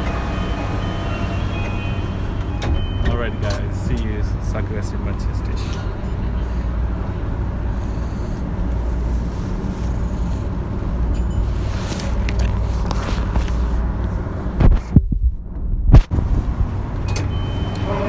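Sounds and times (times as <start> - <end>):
train running low rumble: 0.0 - 18.0.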